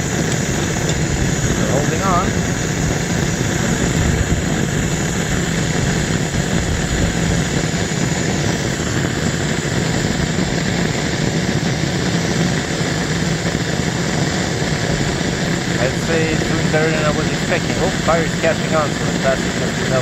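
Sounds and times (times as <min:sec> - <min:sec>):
gas torch flame hissing: 0:00.0 - 0:20.0.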